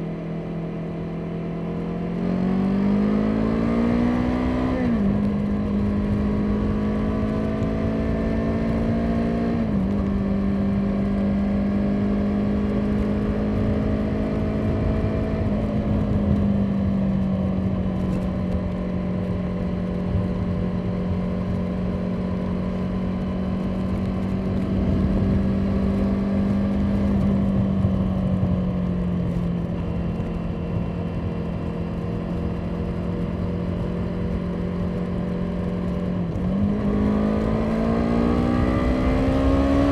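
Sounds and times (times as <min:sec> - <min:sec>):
motorcycle engine running: 0:00.0 - 0:39.9
low wind rumble: 0:02.0 - 0:39.9.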